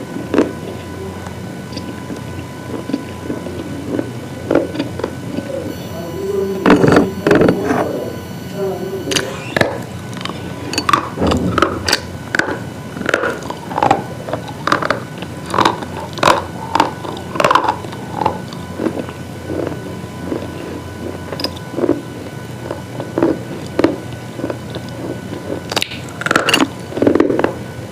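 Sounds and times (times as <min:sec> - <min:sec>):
crunchy chewing: 0:00.0 - 0:27.7.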